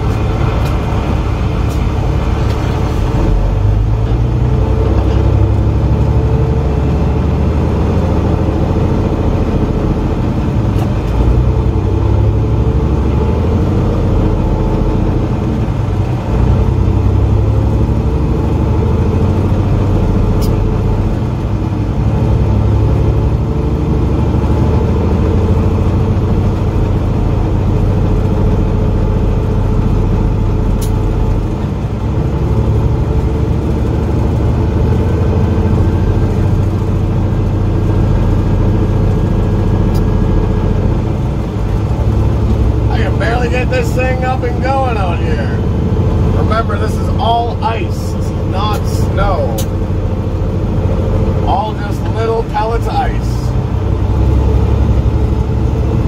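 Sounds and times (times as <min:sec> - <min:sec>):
road noise: 0:00.0 - 0:56.0
truck diesel engine running: 0:00.0 - 0:56.0.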